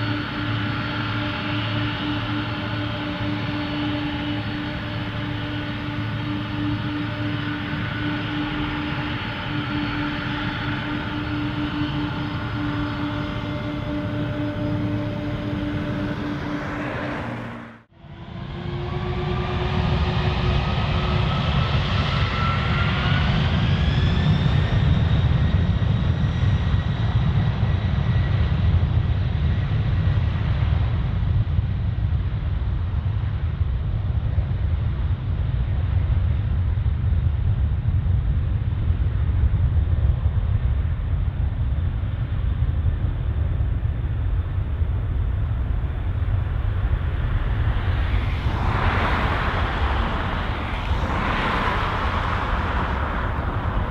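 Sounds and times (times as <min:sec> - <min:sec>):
deep jet engine rumble: 0:00.0 - 0:53.9
jet engine whine: 0:00.0 - 0:53.9.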